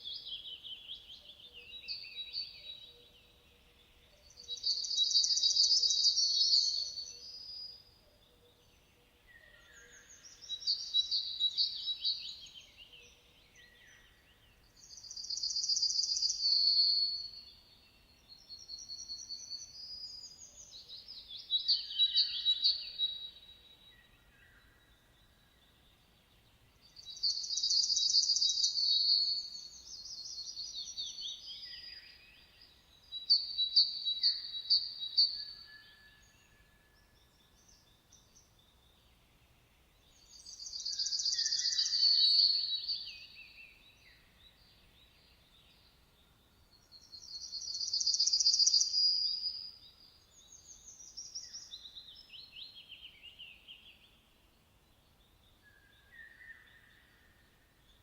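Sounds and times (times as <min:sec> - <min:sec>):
faint background noise: 0:00.0 - 0:58.0
songbirds singing: 0:00.0 - 0:58.0.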